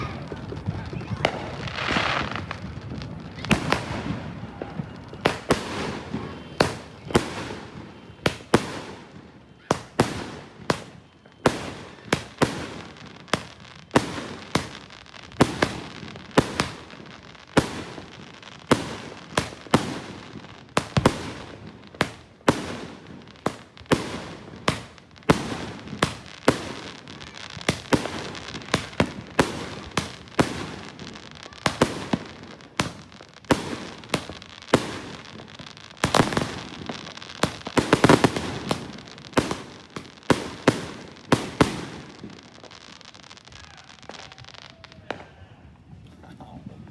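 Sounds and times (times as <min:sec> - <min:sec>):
fireworks bangs: 0:00.0 - 0:46.9
fireworks noisy rush: 0:00.0 - 0:46.9.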